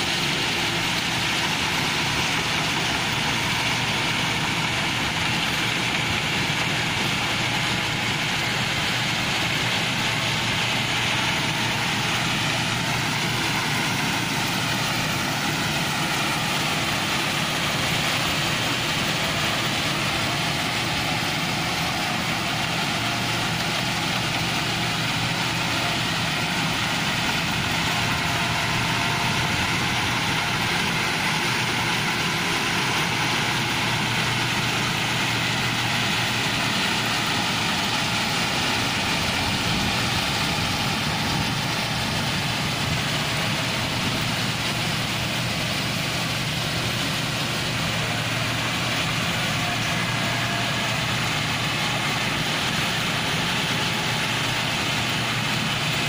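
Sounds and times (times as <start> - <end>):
combine harvester engine and machinery: 0.0 - 56.0.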